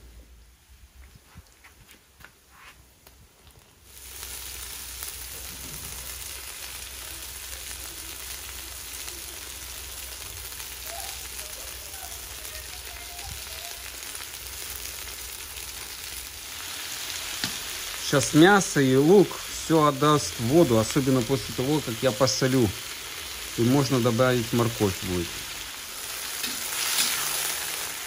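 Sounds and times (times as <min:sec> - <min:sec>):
meat sizzling in hot oil: 0:03.8 - 0:28.0.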